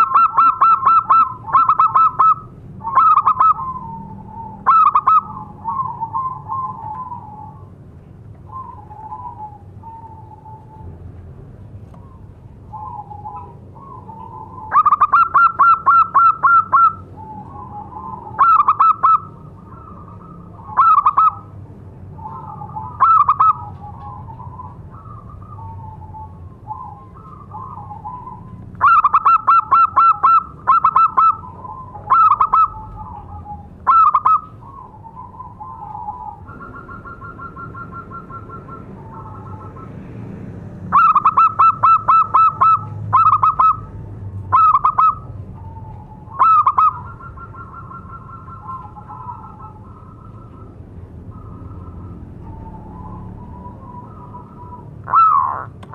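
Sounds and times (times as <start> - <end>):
dove cooing: 0.0 - 7.8, 8.5 - 10.9, 12.0 - 21.6, 22.2 - 40.0, 40.9 - 55.9.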